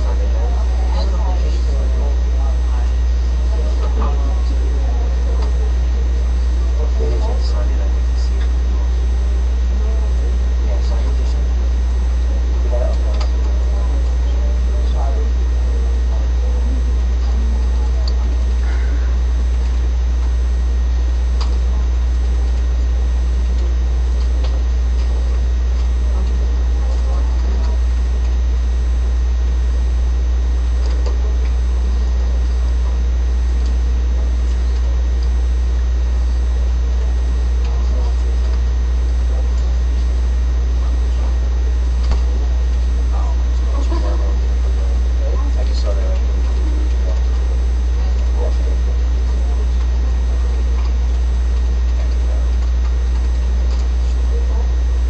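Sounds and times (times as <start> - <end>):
faint talking: 0.0 - 55.0
steady low hum: 0.0 - 55.0.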